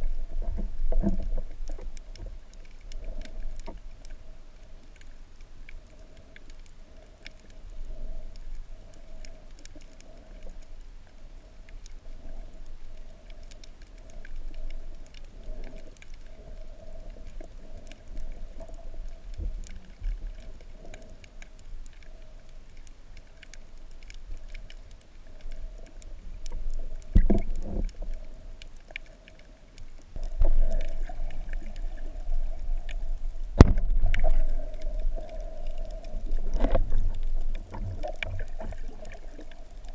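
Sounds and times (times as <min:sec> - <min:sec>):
faint clicks and crackles: 0:00.0 - 0:39.9
low underwater hum: 0:00.0 - 0:39.9.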